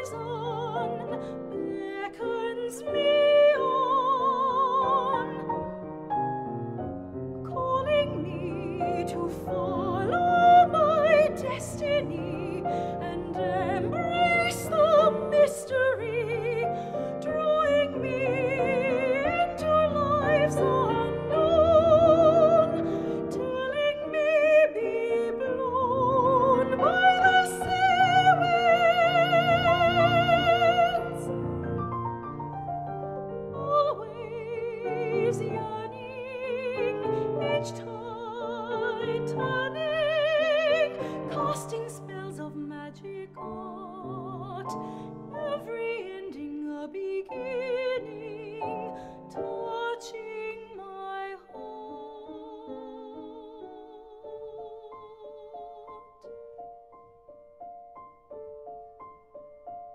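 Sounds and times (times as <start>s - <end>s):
soprano singing with vibrato: 0.0s - 5.7s, 7.4s - 56.5s
piano accompaniment: 0.0s - 59.9s.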